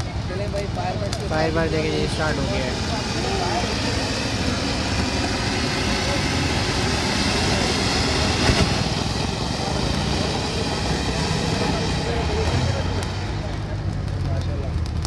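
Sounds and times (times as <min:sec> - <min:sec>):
engine noise: 0:00.0 - 0:15.0
people's voices: 0:00.0 - 0:15.0.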